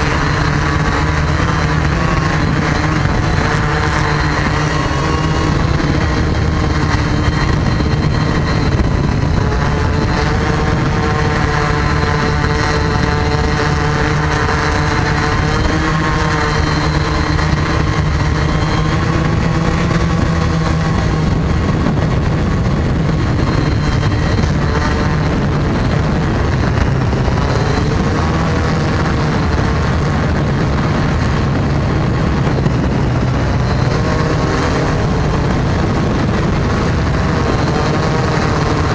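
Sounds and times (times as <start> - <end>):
drone propellers whining: 0.0 - 38.9.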